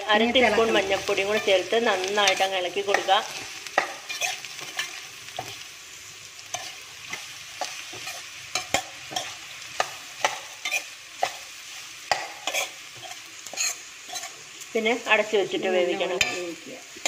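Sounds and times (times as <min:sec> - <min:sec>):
oil sizzling: 0:00.0 - 0:17.0
metal spoon scraping a pan: 0:00.1 - 0:05.7, 0:06.3 - 0:14.8, 0:15.9 - 0:17.0.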